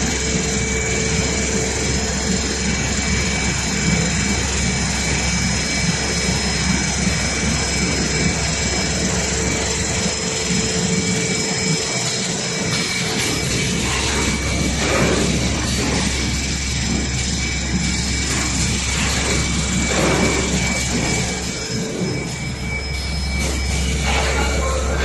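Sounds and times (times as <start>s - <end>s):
machine hum: 0.0s - 25.0s
packaging machinery running: 0.0s - 25.0s
whining machine tones: 0.0s - 25.0s.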